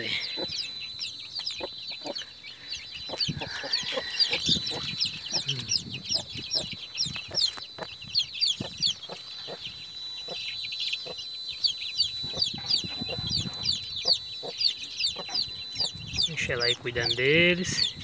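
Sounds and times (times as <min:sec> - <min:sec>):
chicks peeping: 0:00.0 - 0:18.0
hen clucking: 0:00.0 - 0:18.0.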